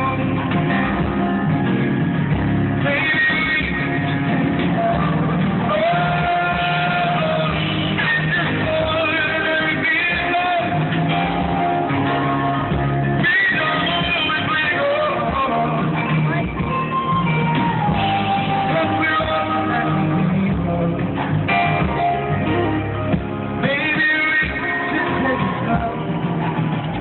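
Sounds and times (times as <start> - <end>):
live band music: 0.0 - 27.0
person singing: 2.7 - 27.0.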